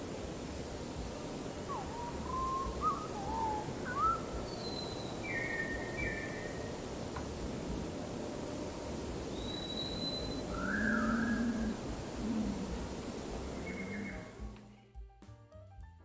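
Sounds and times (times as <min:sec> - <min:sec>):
bird singing whistled notes: 0:00.0 - 0:07.5, 0:08.4 - 0:14.6
steady background hiss: 0:00.0 - 0:15.2.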